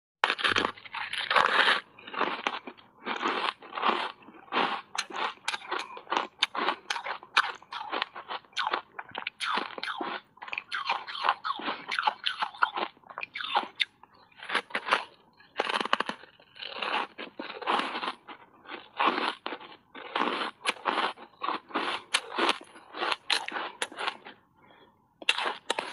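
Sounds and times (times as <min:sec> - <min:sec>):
ice being crunched and chewed: 0:00.2 - 0:24.4, 0:25.2 - 0:25.9.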